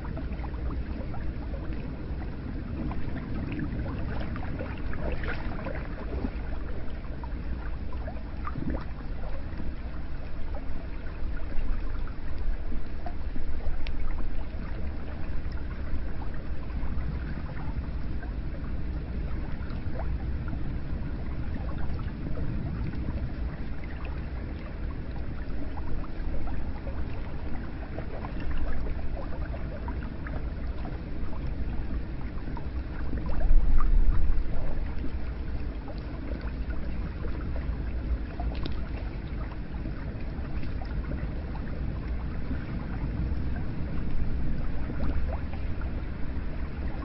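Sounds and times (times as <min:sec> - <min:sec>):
low rumble: 0:00.0 - 0:47.0
water drips and splashes: 0:00.0 - 0:47.0.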